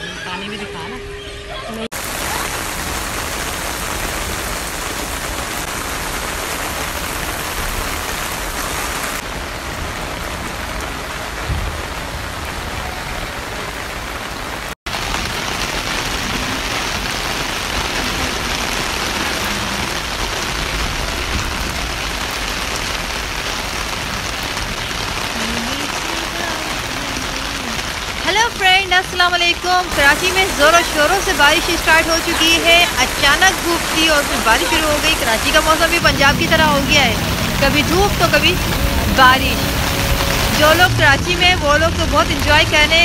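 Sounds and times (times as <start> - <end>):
heavy rain pouring: 1.8 - 43.0.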